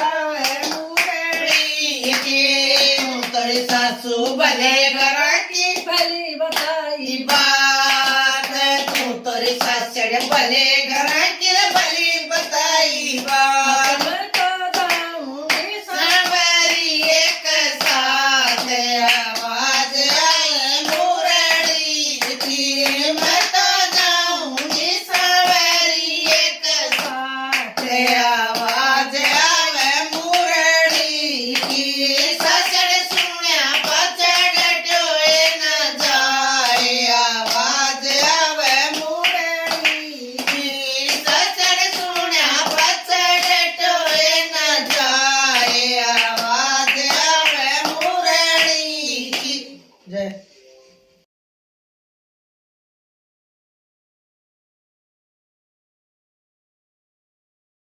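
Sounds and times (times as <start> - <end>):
hand clapping: 0.0 - 49.6
women singing devotional song: 0.0 - 50.5.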